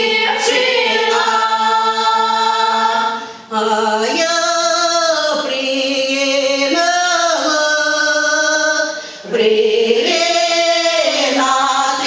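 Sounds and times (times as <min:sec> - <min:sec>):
choir singing in harmony: 0:00.0 - 0:12.0.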